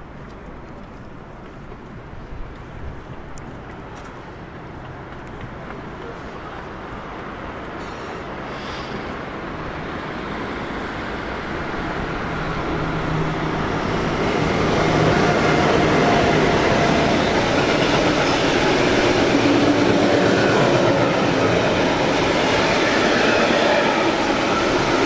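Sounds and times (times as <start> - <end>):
train wheels rushing on rails: 4.1 - 25.0.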